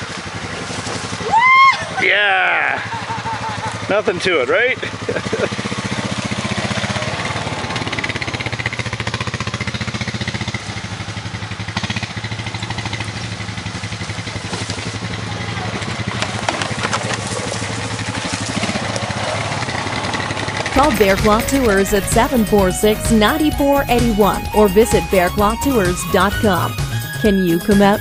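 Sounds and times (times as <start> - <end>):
atv engine running at low revs: 0.0 - 28.0.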